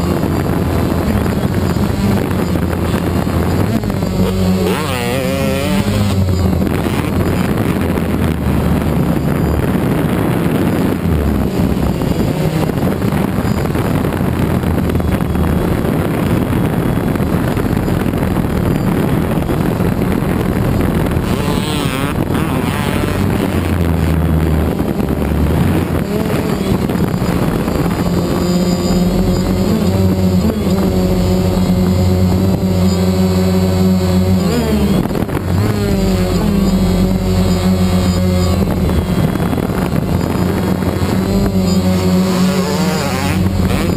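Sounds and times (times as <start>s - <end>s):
dirt bike engine revving: 0.0s - 43.9s
drone propellers humming: 0.0s - 43.9s
wind on microphone: 0.0s - 43.9s.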